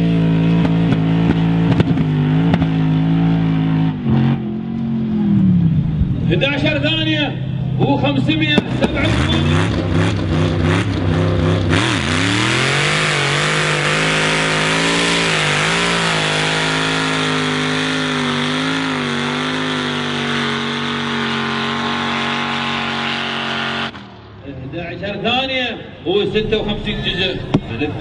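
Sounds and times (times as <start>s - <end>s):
van engine at full throttle: 0.0s - 24.3s.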